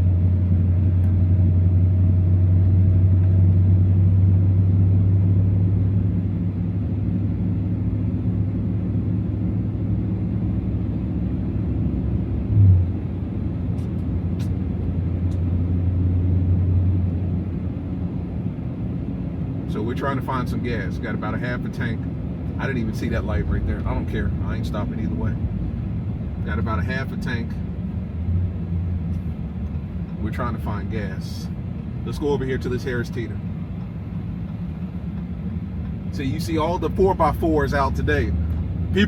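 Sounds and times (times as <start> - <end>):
vehicle engine drone in cab: 0.0 - 39.0.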